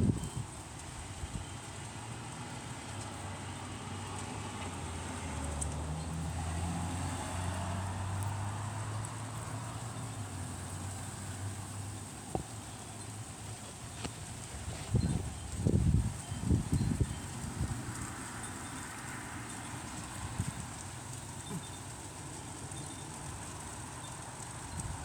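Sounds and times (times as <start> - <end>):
outdoor noise: 0.0 - 25.0.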